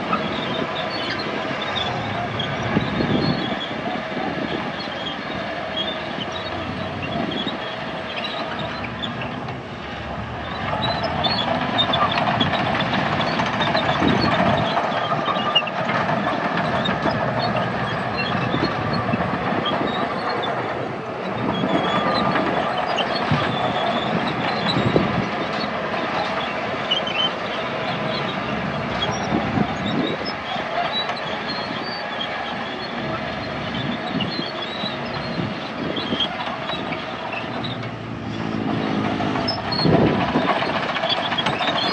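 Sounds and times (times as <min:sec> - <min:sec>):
bulldozer diesel engine: 0:00.0 - 0:41.9
steel tracks clanking and squeaking: 0:00.0 - 0:41.9.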